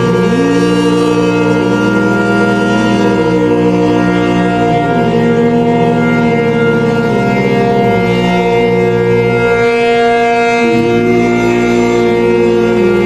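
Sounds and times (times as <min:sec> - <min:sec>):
air-raid siren: 0:00.0 - 0:13.0.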